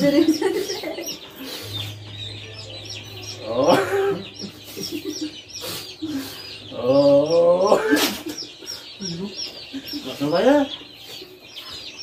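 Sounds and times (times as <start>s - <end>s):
chicken calling: 0.0s - 12.0s
chickens peeping: 0.0s - 12.0s.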